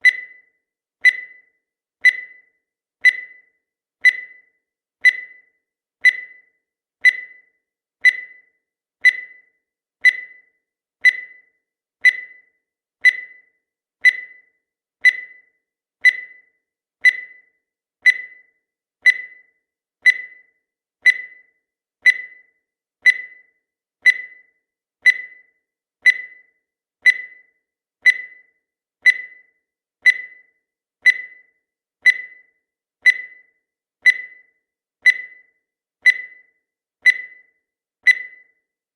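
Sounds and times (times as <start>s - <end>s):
countdown timer ticking: 0.0s - 38.6s.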